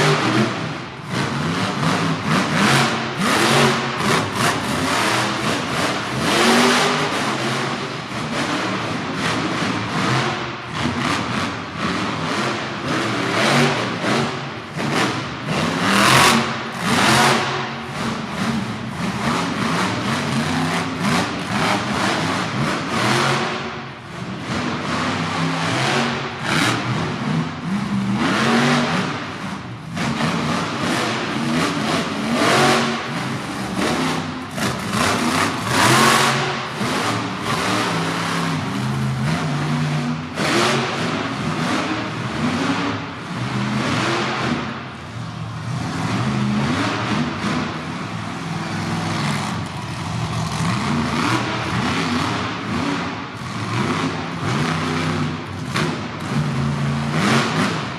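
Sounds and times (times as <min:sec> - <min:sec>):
monster truck engine revving: 0:00.0 - 0:57.9.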